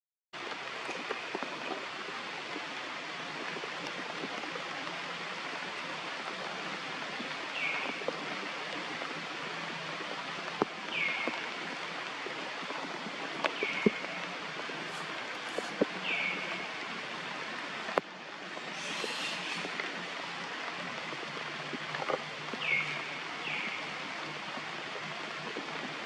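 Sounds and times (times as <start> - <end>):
outdoor background hiss: 0.4 - 26.0.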